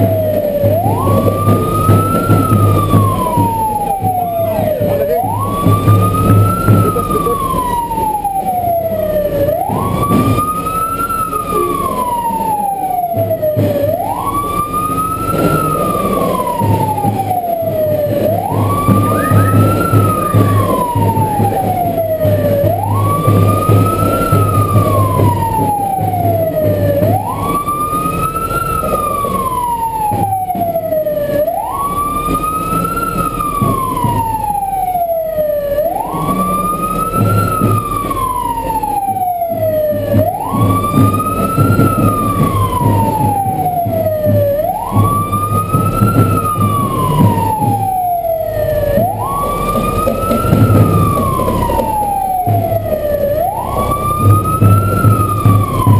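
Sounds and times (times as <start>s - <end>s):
engine running: 0.0s - 55.9s
siren wailing: 0.0s - 55.9s.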